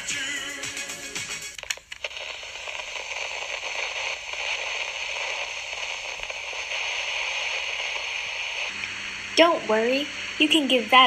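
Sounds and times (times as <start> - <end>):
static hiss: 0.0 - 11.0.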